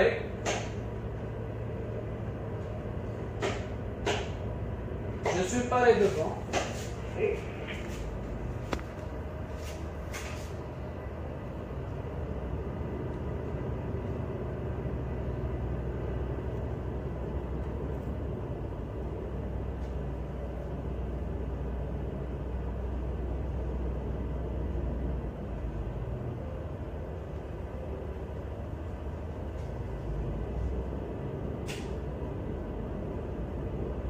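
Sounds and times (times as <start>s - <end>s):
tug engines droning: 0.0s - 34.0s.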